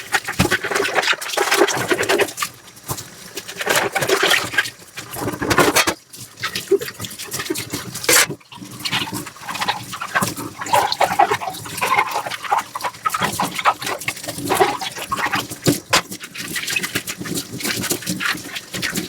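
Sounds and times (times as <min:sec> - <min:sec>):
sponge scrubbing dishes: 0:00.0 - 0:19.0.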